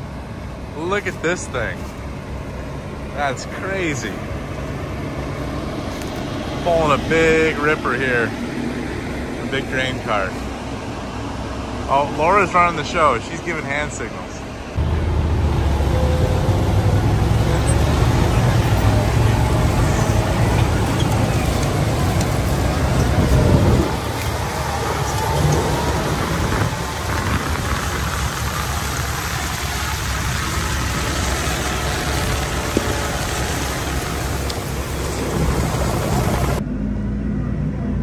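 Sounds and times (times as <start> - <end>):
continuous rushing noise: 0.0 - 38.0
tractor cab interior noise: 0.0 - 38.0
tractor diesel engine droning: 0.0 - 38.0.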